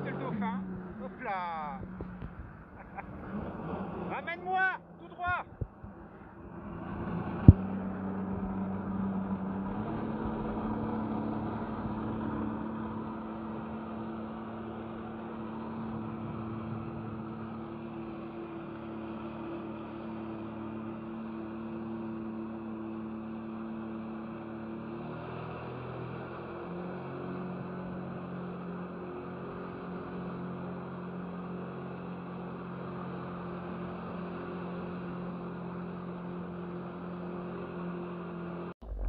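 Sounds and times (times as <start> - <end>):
jet ski engine running: 0.0 - 39.0.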